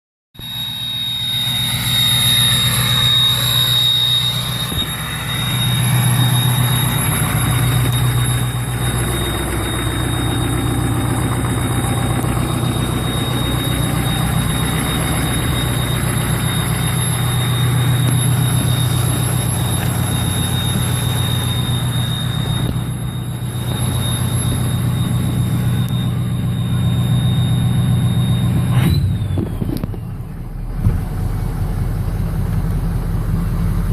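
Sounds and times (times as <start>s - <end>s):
turbo whistle: 0.4s - 30.6s
diesel engine idling: 0.4s - 33.9s.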